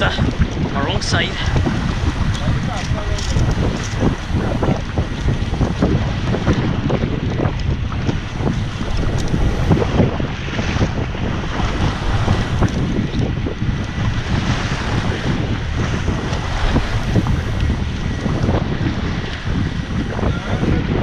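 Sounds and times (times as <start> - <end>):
waves washing against hull: 0.0 - 21.0
wind buffeting microphone: 0.0 - 21.0.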